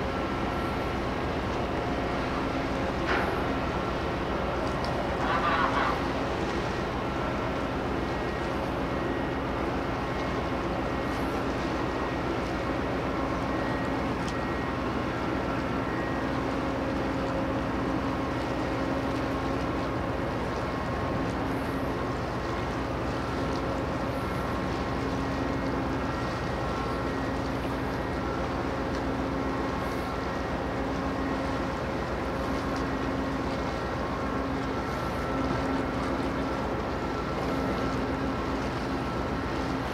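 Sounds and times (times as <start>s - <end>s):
ship engines droning: 0.0s - 39.9s
wind and water hiss: 0.0s - 39.9s.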